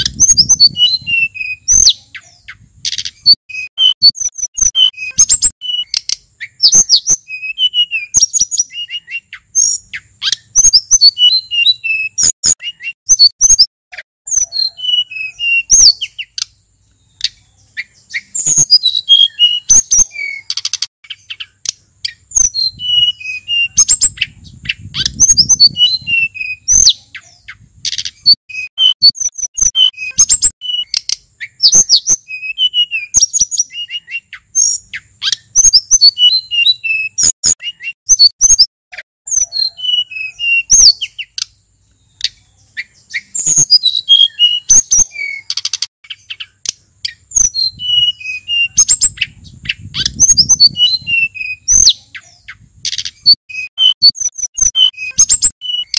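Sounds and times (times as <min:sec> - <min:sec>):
bird singing whistled notes: 0:00.0 - 0:13.7, 0:14.3 - 0:38.7, 0:39.3 - 0:55.9.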